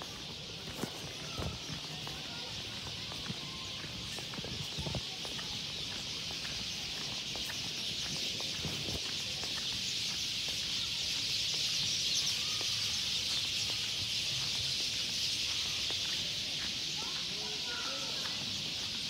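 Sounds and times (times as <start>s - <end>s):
footsteps on stone paving: 0.0s - 19.0s.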